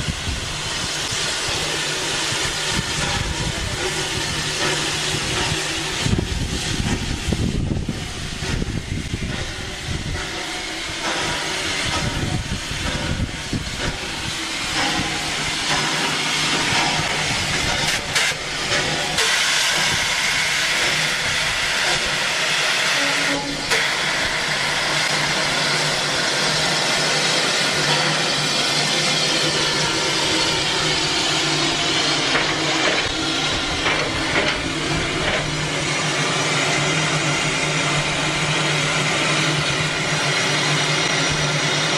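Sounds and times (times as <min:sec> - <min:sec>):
steam hissing: 0:00.0 - 0:41.9
steam locomotive rumbling: 0:00.0 - 0:41.9.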